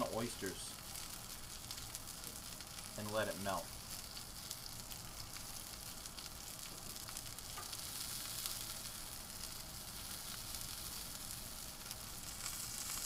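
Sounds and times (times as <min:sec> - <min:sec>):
butter bubbling: 0:00.0 - 0:13.0
oysters sizzling on a grill: 0:00.0 - 0:13.0.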